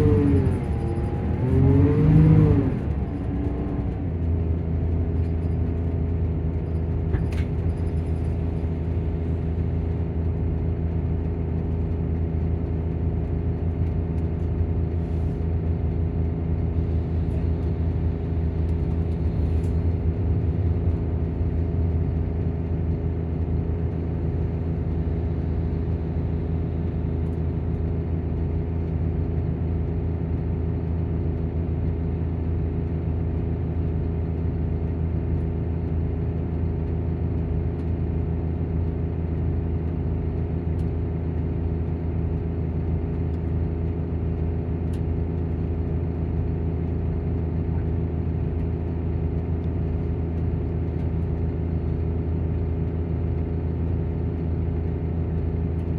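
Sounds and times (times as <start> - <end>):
engine cooling fan drone: 0.0 - 55.9.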